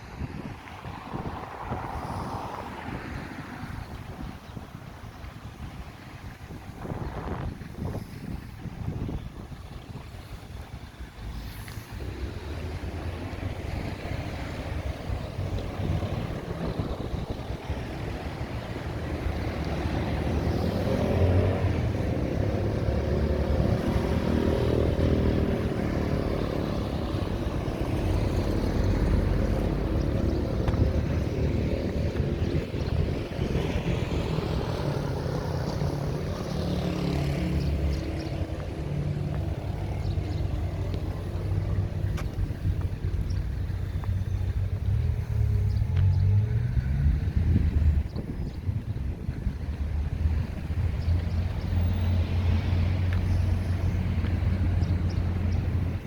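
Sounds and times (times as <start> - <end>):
vehicles passing: 0.0 - 56.0
low engine rumble: 5.3 - 56.0.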